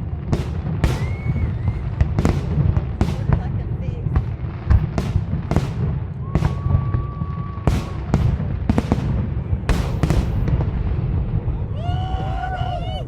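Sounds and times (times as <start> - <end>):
deep echoing rumble: 0.0 - 13.0
fireworks bangs: 0.0 - 13.0.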